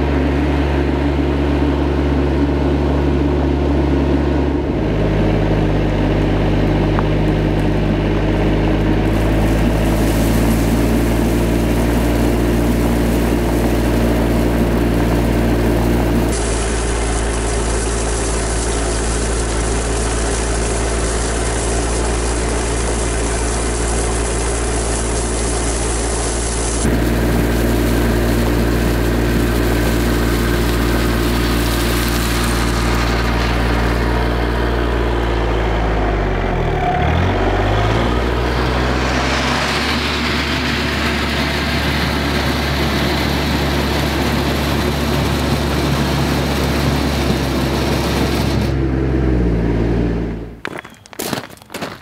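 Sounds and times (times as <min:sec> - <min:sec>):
tractor diesel engine running: 0:00.0 - 0:51.8
gravel pouring and rattling: 0:06.0 - 0:35.6, 0:37.0 - 0:48.7, 0:50.6 - 0:52.0.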